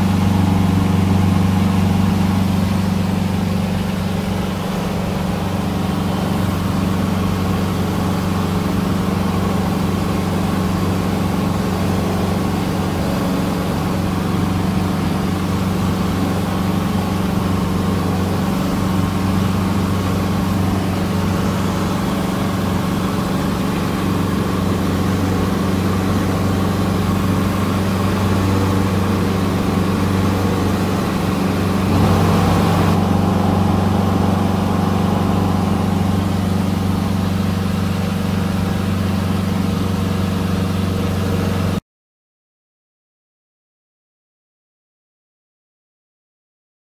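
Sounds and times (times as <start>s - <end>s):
airplane engine and propeller droning: 0.0s - 41.8s.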